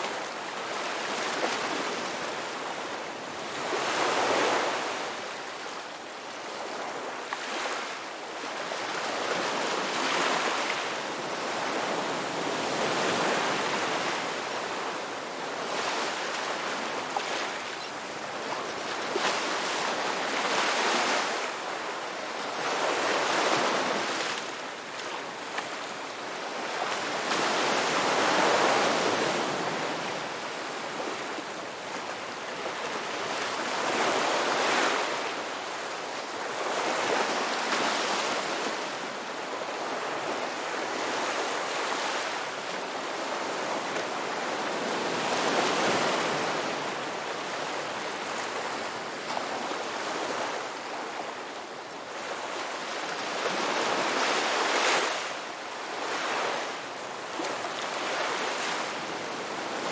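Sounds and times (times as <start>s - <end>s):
ocean waves breaking on beach: 6.4s - 59.9s.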